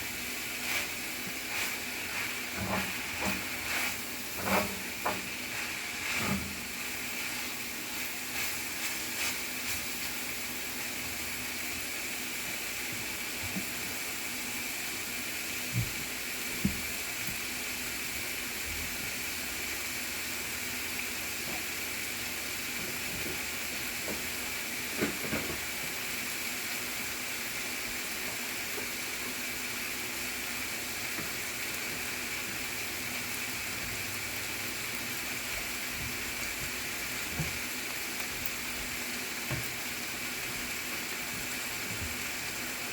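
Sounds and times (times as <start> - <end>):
meat sizzling in a hot pan: 0.0 - 42.9.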